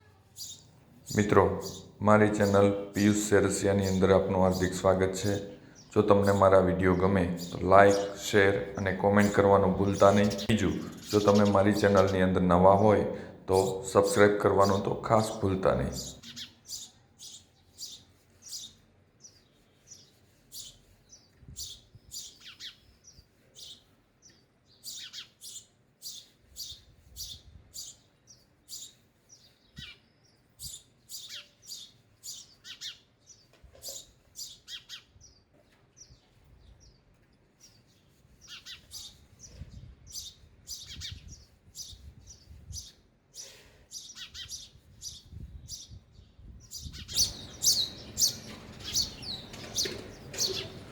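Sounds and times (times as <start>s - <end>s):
sparrows chirping: 0.0s - 50.9s.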